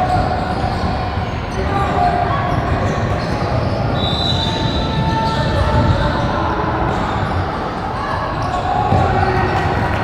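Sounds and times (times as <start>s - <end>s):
voices in a large hall: 0.0s - 10.0s.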